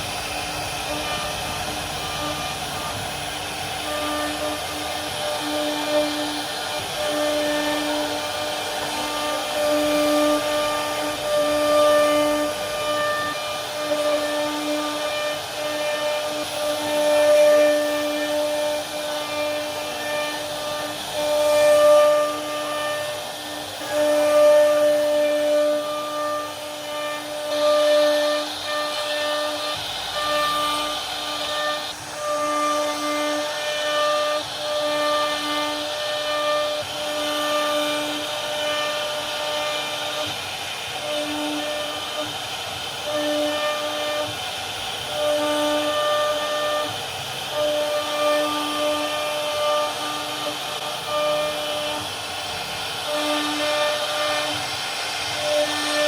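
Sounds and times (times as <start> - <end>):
hiss of wood cutting: 0.0 - 56.0
router spindle whine: 0.0 - 56.0.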